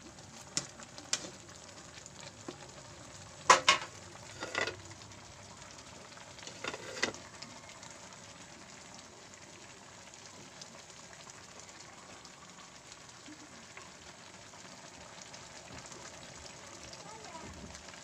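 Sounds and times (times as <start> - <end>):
noodles sizzling in pan: 0.0 - 18.0.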